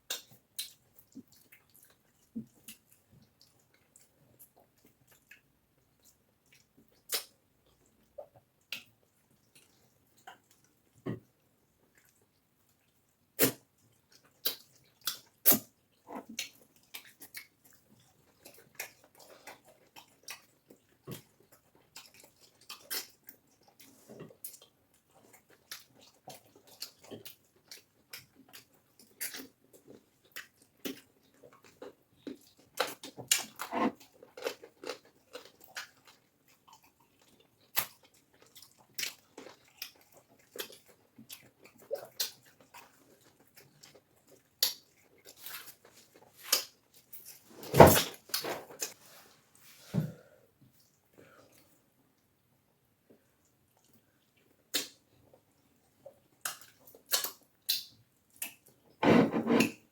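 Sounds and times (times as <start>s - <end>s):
wet chewing with smacks: 0.0s - 49.0s, 53.1s - 59.0s.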